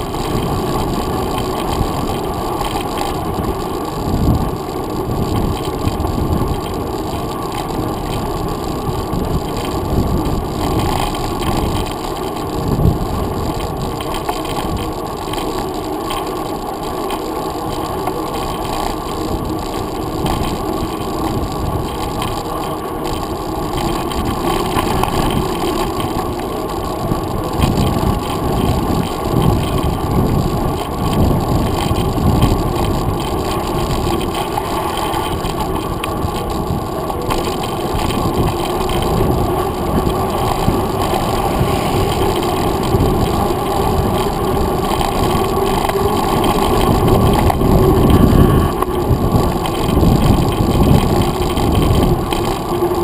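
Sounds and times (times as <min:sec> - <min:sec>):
muffled bike riding rumble: 0:00.0 - 0:53.0.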